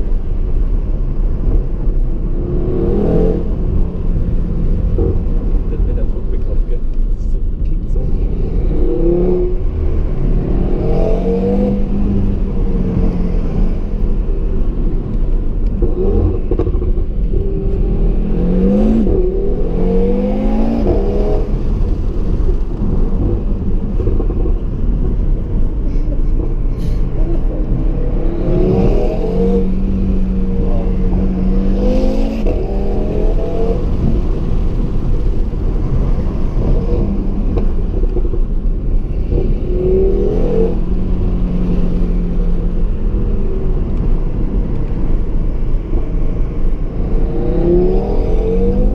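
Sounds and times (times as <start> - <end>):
low road rumble: 0.0 - 48.9
car engine accelerating hard: 2.1 - 48.9.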